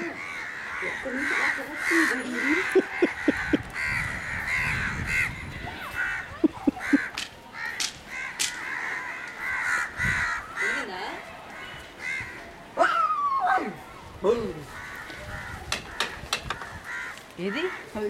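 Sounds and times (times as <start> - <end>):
crows cawing: 0.0 - 13.0, 14.6 - 18.0.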